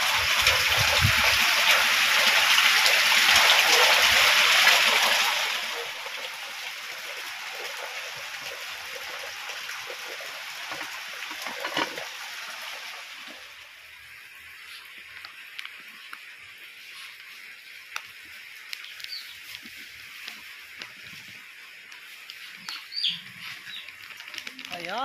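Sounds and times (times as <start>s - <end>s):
heavy rain splashing into puddles: 0.0s - 25.0s.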